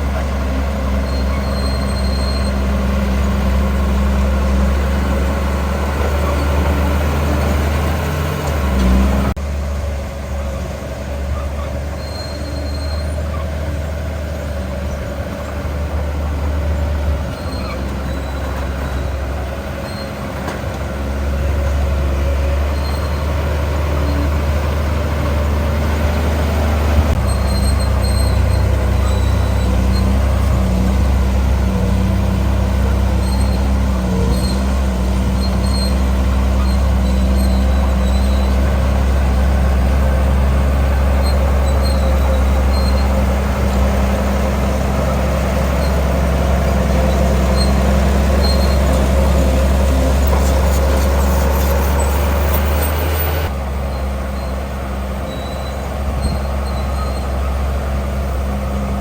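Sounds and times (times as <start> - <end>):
earthmoving diesel engine running: 0.0 - 59.0.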